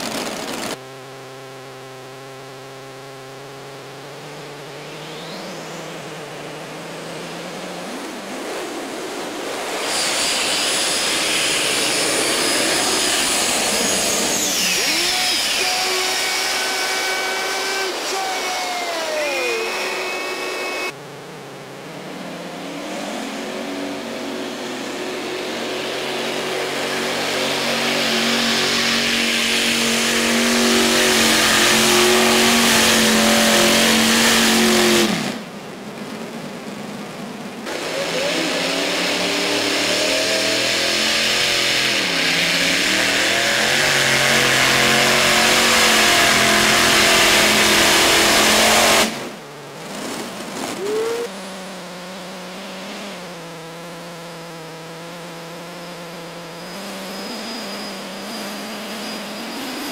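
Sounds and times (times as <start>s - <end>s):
pulling tractor engines at full throttle: 0.0s - 0.8s, 3.8s - 21.0s, 22.1s - 59.9s.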